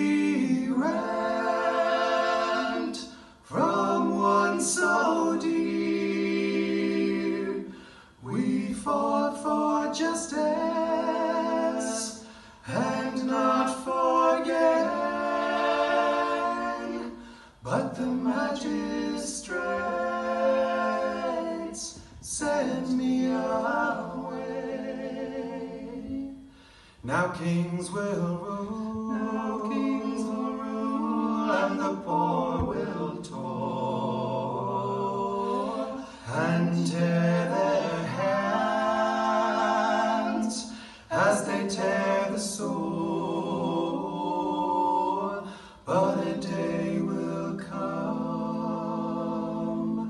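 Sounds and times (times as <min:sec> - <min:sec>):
male trio singing a cappella: 0:00.0 - 0:50.0.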